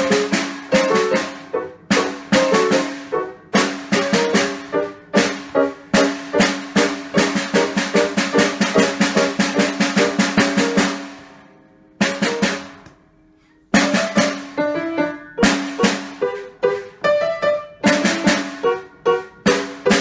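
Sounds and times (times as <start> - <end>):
lively solo instrumental music: 0.0 - 20.0.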